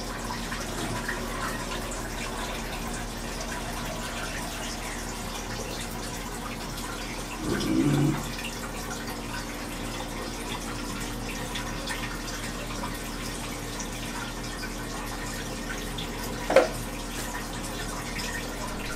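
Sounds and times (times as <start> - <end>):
low pump hum: 0.0 - 18.9
water pump splashing and trickling: 0.0 - 18.9.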